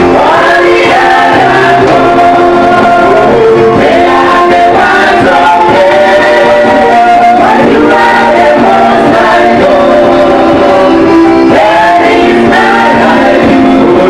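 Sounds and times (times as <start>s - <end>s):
congregation singing: 0.0s - 14.0s
live band playing: 0.0s - 14.0s.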